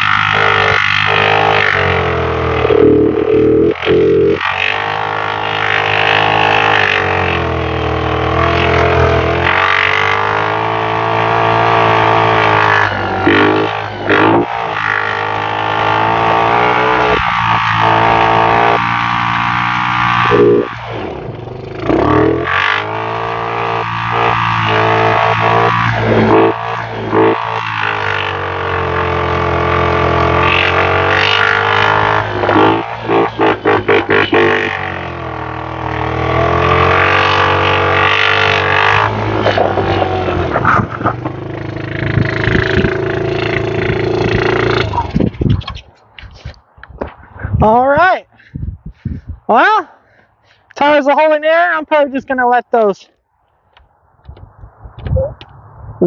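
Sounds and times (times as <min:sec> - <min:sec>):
atv engine droning: 0:00.0 - 0:51.8.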